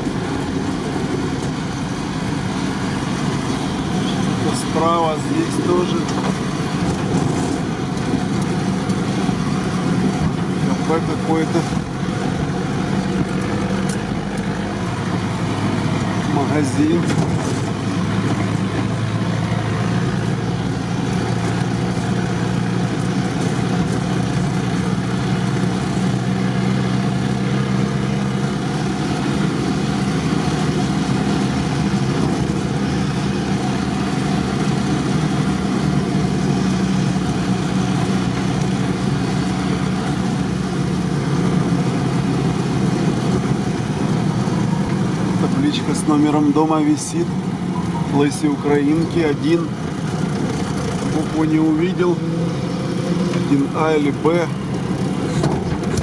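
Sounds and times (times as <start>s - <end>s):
off-road vehicle engine droning: 0.0s - 56.0s.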